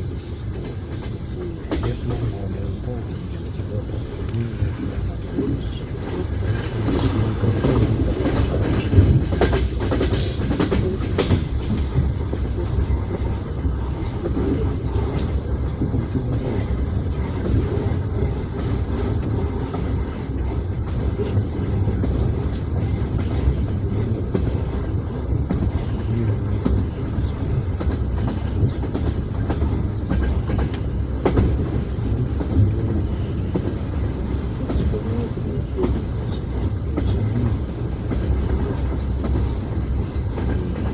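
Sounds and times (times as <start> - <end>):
train wheels clattering over rail joints: 0.4 - 40.9.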